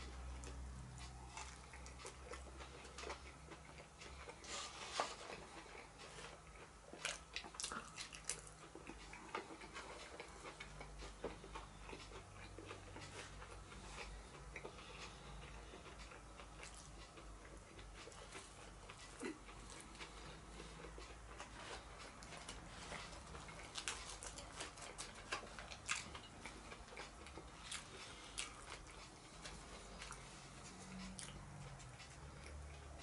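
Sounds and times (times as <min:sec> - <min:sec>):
chewing: 0:00.0 - 0:33.0.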